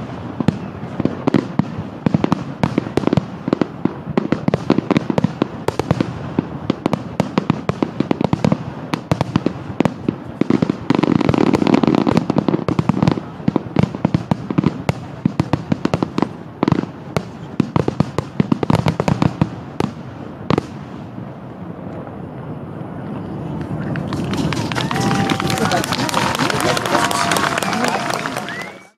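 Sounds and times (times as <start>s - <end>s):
fireworks bursting and crackling: 0.0s - 28.9s.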